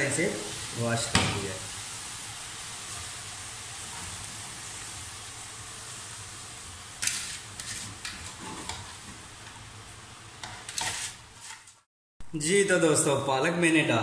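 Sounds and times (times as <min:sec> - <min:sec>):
spinach sizzling in a pot: 0:00.0 - 0:11.9.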